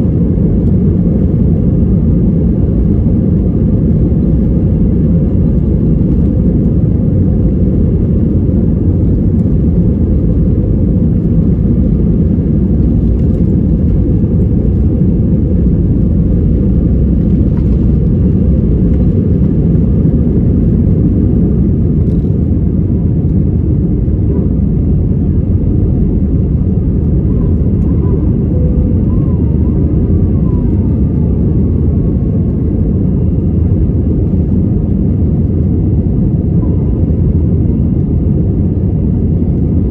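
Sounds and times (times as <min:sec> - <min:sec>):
jet engines and airflow rumble: 0:00.0 - 0:39.9.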